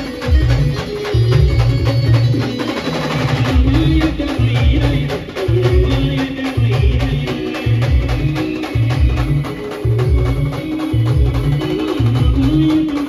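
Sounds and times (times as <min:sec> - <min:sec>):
band music through loudspeakers: 0:00.0 - 0:13.0.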